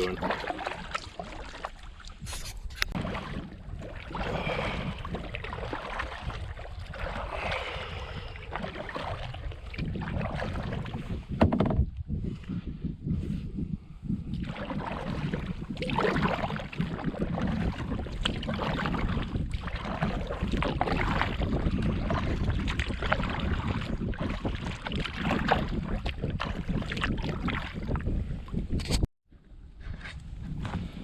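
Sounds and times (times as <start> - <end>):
water splashing around canoe: 0.0 - 12.3, 14.2 - 29.0
wind buffeting microphone: 0.0 - 31.0.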